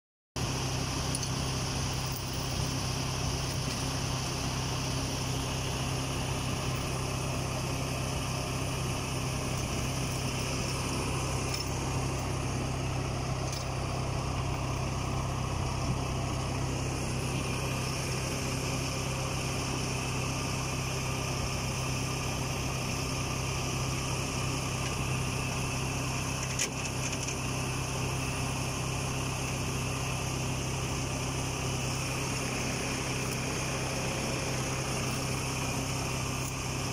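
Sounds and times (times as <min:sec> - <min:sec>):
diesel engine idling: 0:00.4 - 0:36.9.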